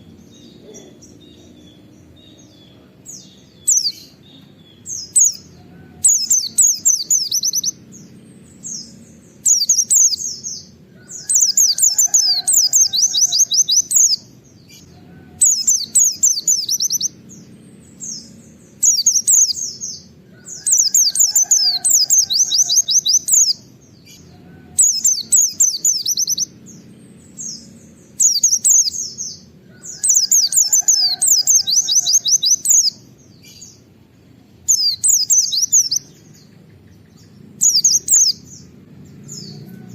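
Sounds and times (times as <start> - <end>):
bird singing whistled notes: 0.0 - 33.8, 34.6 - 39.9.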